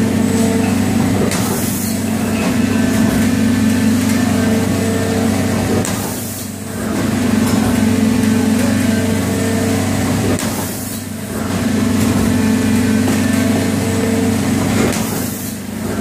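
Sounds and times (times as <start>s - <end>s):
injection moulding machine humming: 0.0s - 16.0s.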